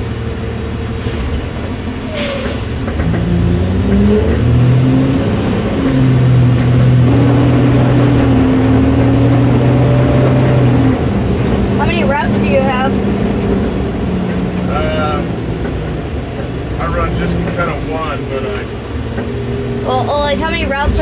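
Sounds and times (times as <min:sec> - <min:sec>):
truck engine pulling away: 0:00.0 - 0:21.0.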